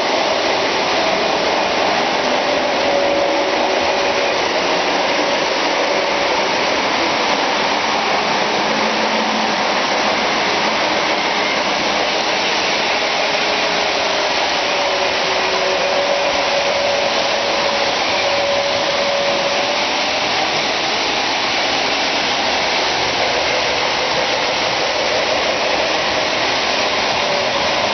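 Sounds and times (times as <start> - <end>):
model train motor hum: 0.0 - 27.9
wheels on metal track: 0.0 - 27.9.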